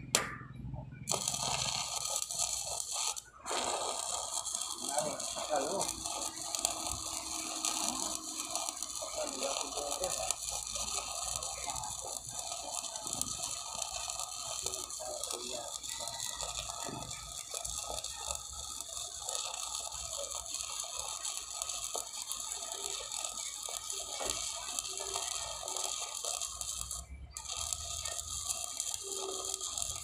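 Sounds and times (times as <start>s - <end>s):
welding arc crackling: 0.9s - 30.0s.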